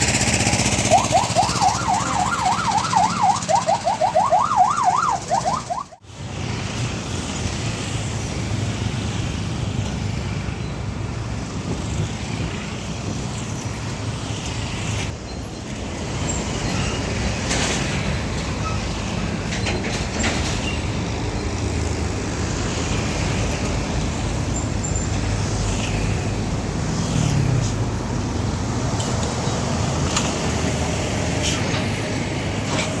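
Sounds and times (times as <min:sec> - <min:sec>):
heavy truck engine passing: 0:00.0 - 0:15.1, 0:15.8 - 0:33.0
road traffic noise: 0:00.0 - 0:33.0.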